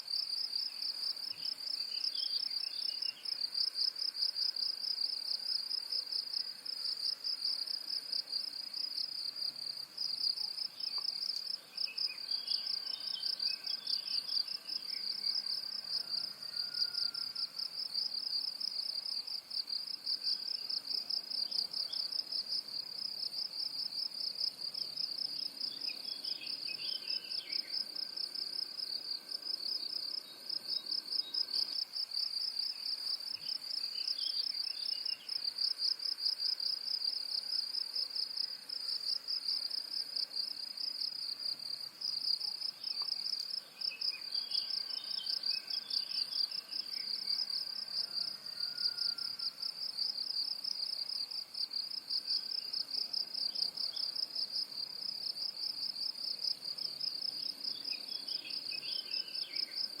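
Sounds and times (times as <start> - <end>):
insect trill: 0.0 - 60.0.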